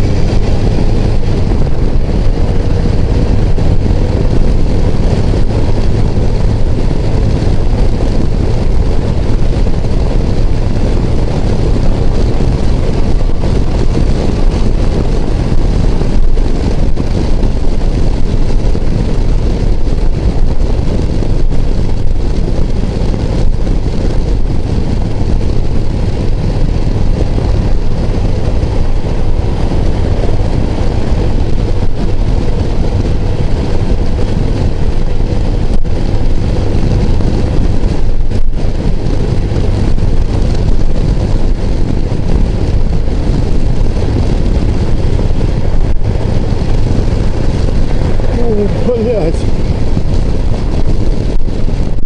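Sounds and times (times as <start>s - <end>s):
motorcycle engine drone: 0.0s - 52.0s
wind buffeting microphone: 0.0s - 52.0s.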